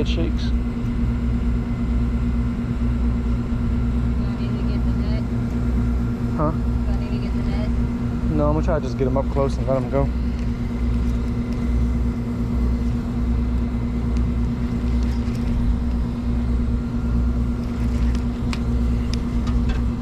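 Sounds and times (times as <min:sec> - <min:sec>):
motor running with low hum: 0:00.0 - 0:20.0.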